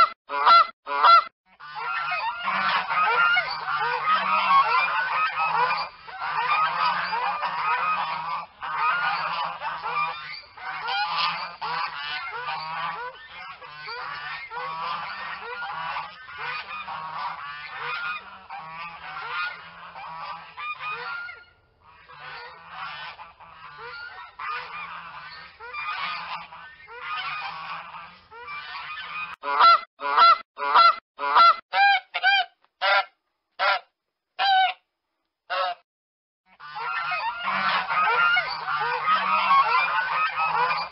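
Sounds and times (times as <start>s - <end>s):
geese honking: 0.0s - 34.8s, 35.5s - 35.8s, 36.5s - 40.9s.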